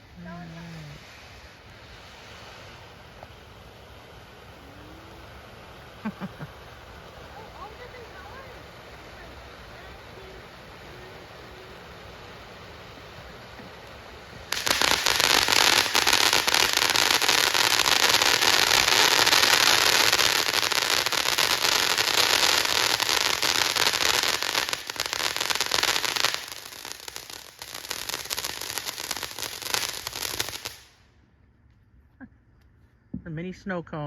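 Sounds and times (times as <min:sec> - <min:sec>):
firework fountains hissing and crackling: 0:00.0 - 0:31.4.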